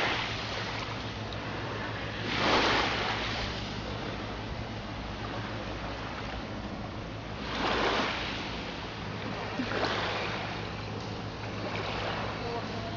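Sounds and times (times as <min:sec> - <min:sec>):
sea waves washing in: 0:00.0 - 0:12.9
steady low hum: 0:00.0 - 0:12.9.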